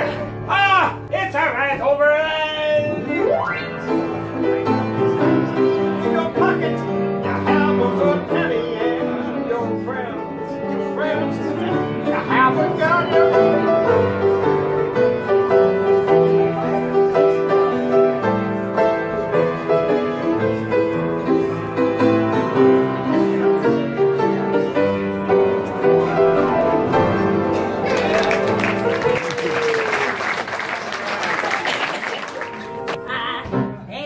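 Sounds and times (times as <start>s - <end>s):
lively piano tune: 0.0s - 34.0s.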